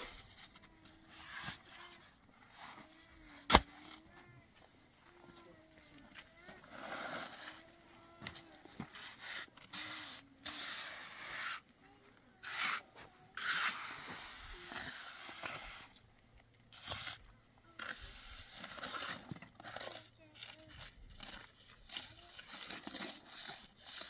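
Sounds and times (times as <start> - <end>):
trowel scraping wet cement: 0.0 - 4.0, 6.4 - 11.7, 12.4 - 16.1, 16.7 - 24.0.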